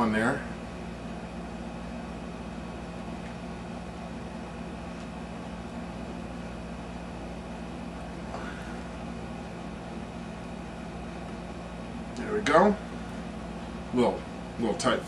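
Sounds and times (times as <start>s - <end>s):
room hum and hiss: 0.0s - 15.0s.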